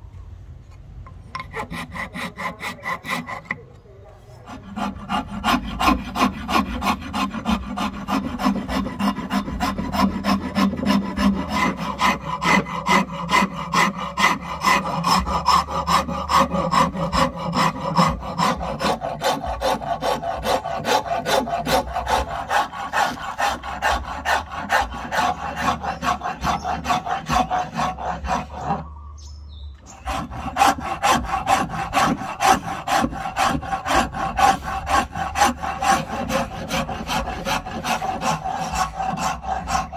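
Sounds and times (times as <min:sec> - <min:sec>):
file rasping wood: 0:01.3 - 0:29.0, 0:29.9 - 0:39.9.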